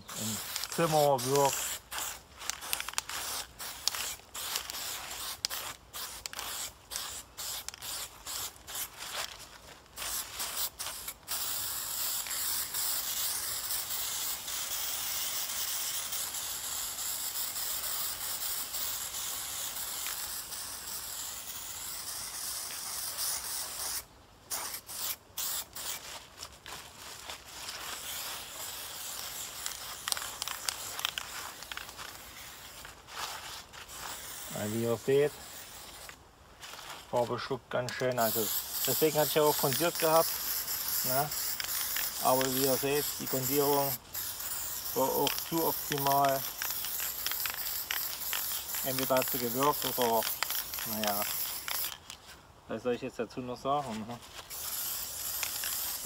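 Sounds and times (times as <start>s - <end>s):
spray paint can spraying: 0.0s - 52.2s, 53.8s - 56.0s.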